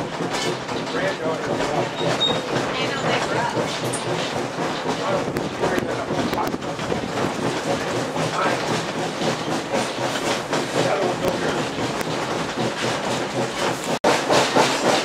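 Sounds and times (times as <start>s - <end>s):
train wheels rattling on rails: 0.0s - 15.0s.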